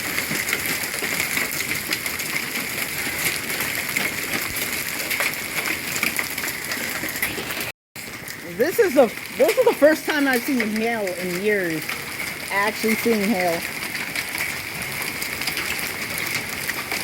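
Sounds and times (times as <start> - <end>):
hailstones ticking: 0.0 - 7.4, 8.0 - 17.0
rain hissing: 0.0 - 17.0.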